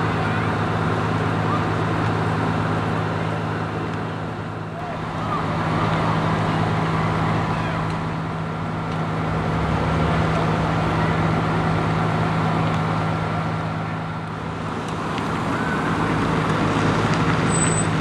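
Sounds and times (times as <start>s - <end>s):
fire engine idling: 0.0s - 18.0s.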